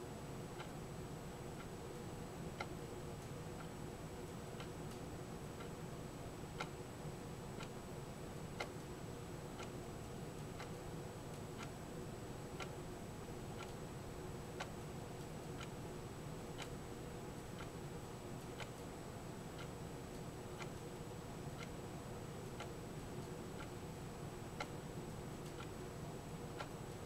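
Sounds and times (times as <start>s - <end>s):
low hum and hiss: 0.0s - 27.0s.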